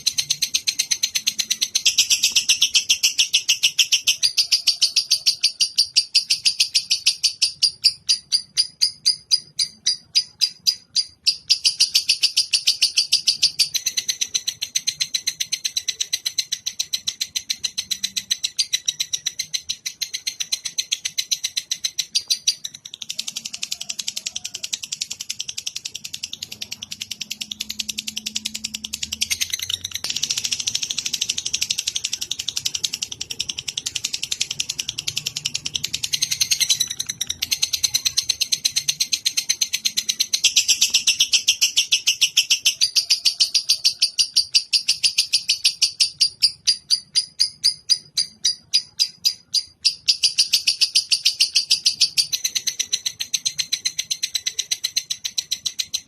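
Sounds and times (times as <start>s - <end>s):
bird chattering call: 0.0s - 56.0s.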